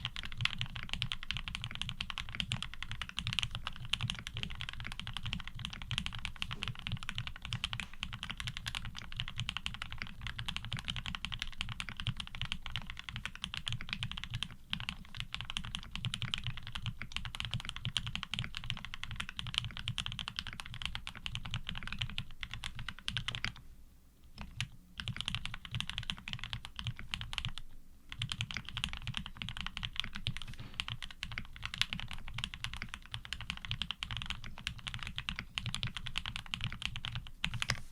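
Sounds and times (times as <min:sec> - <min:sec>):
fast typing on mechanical keyboard: 0:00.0 - 0:23.6, 0:24.3 - 0:37.8.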